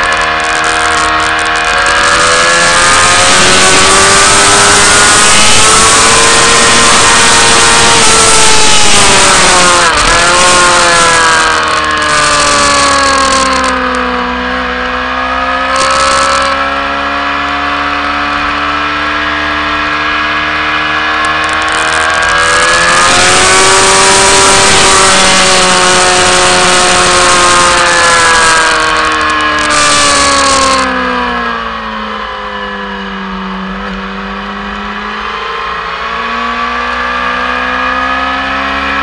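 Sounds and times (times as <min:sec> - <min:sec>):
racing motorcycle engine: 0:00.0 - 0:39.0.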